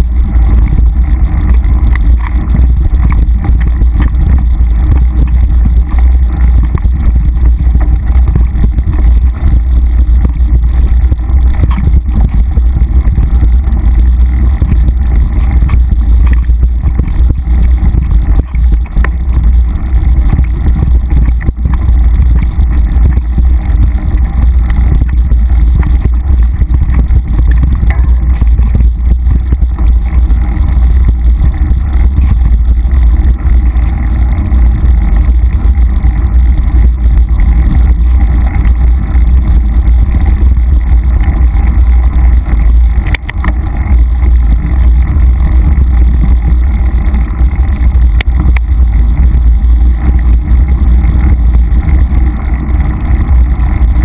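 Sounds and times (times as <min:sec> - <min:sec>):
wind and trail vibration rumble: 0:00.0 - 0:54.0.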